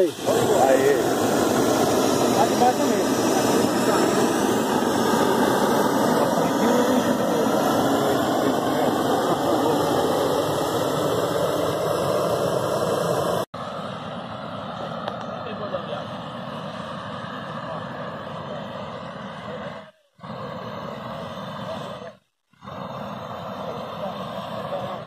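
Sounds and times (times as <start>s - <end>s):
gas burner rushing: 0.0s - 13.5s, 15.0s - 25.0s.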